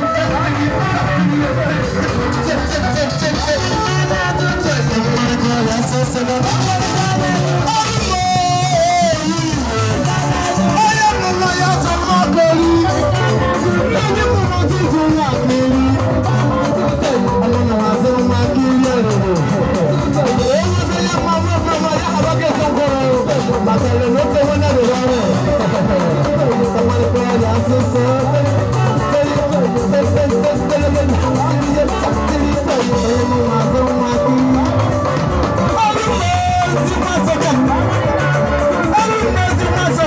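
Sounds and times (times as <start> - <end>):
live band playing amplified music: 0.0 - 40.0
man singing into a microphone: 0.0 - 40.0.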